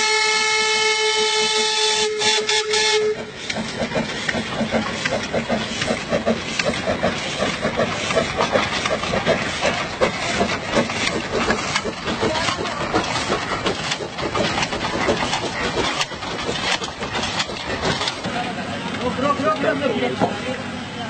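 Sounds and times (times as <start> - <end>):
steam locomotive exhaust beating: 0.0 - 20.9.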